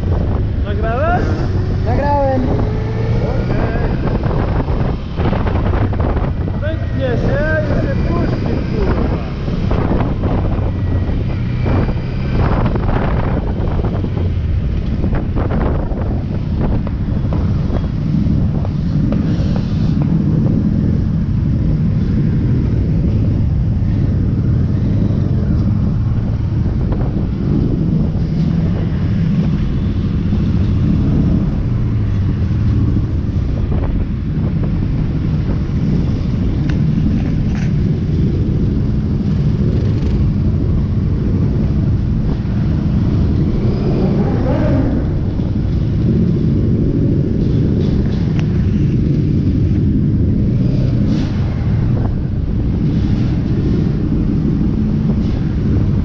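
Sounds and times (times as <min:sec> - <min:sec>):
motorcycle engines rumbling: 0:00.0 - 0:56.0
wind buffeting microphone: 0:00.0 - 0:56.0.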